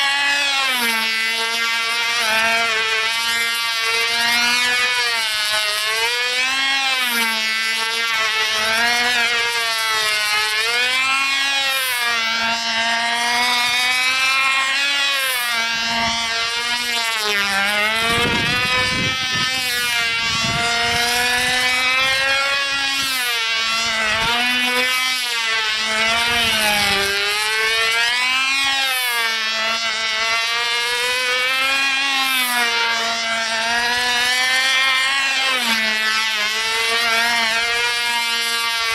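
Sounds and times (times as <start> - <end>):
model airplane engine buzzing: 0.0 - 38.9.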